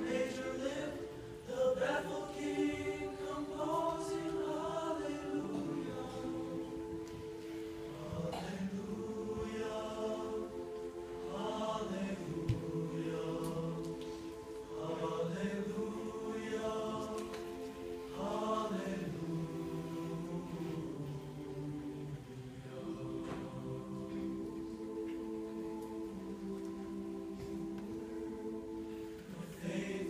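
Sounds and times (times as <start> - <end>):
choir singing held chords: 0.0 - 30.0.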